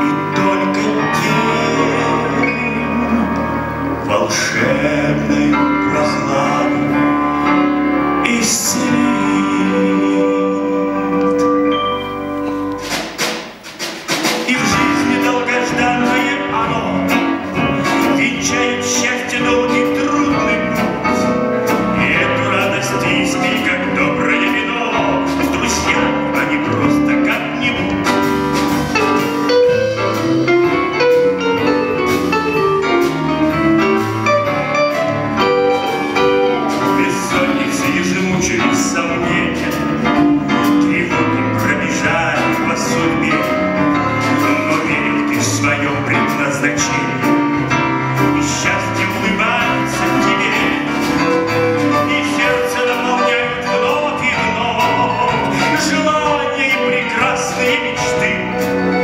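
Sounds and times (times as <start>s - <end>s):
man singing: 0.0s - 12.2s, 14.3s - 28.4s, 29.0s - 59.0s
drum kit: 0.0s - 59.0s
piano: 0.0s - 59.0s.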